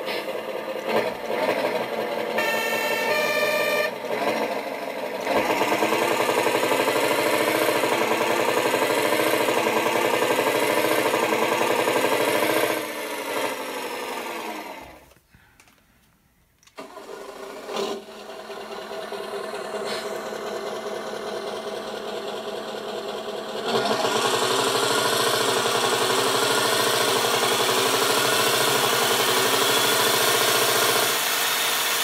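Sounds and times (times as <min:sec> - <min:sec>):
synthesised truck engine through loudspeaker: 0:00.0 - 0:15.1, 0:17.4 - 0:32.0.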